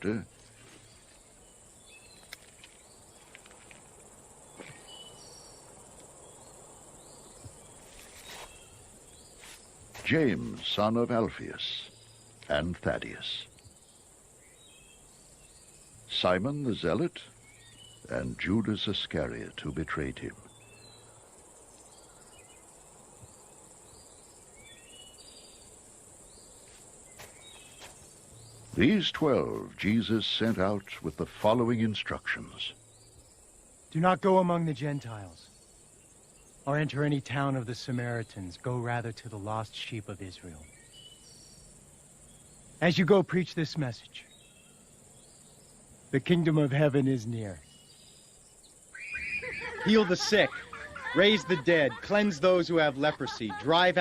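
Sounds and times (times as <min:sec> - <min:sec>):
crickets trilling: 0:00.0 - 0:54.0
short insect chirps: 0:00.1 - 0:54.0.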